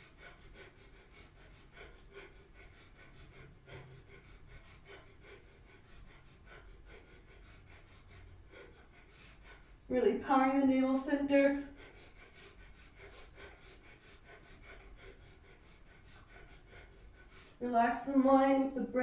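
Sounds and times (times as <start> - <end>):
rapid forceful nose breathing: 0.0 - 19.0.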